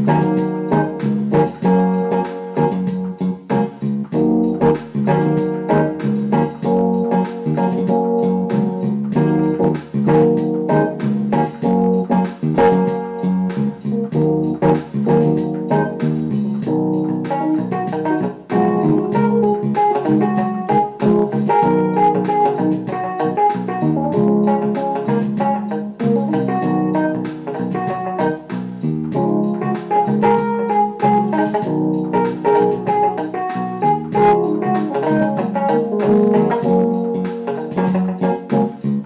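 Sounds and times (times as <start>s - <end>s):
organ-like keyboard chords: 0.0s - 39.0s.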